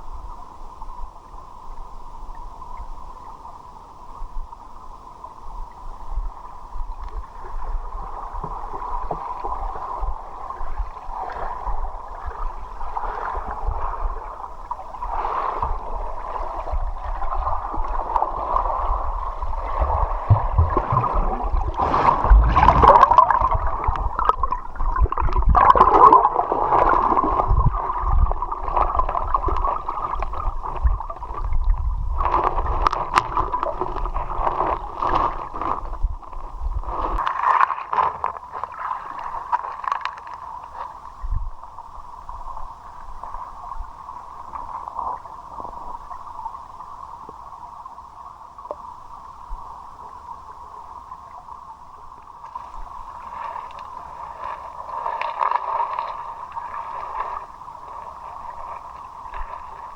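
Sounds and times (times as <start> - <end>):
underwater river gurgling: 0.0 - 59.9.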